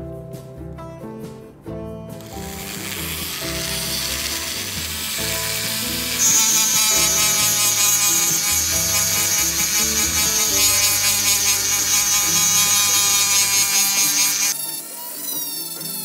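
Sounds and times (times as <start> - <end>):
rotary tool grinding metal: 2.2 - 16.0.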